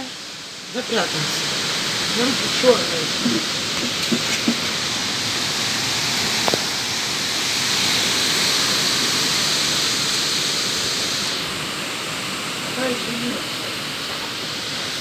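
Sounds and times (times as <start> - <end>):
storm wind rustling tree leaves: 0.0 - 15.0.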